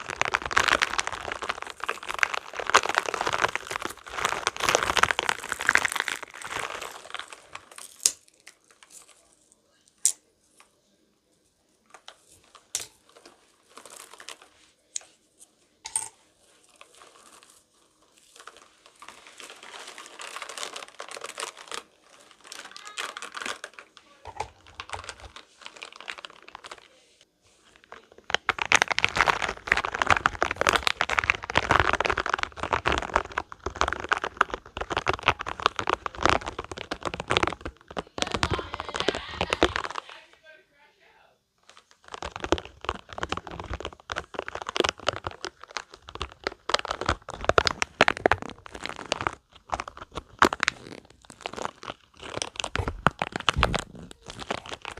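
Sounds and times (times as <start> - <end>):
rubber balls tapping: 0.0 - 9.2, 15.9 - 26.9, 27.7 - 40.1, 41.6 - 54.9
crackly rubbing of rubber balls: 0.0 - 40.6, 41.6 - 54.9.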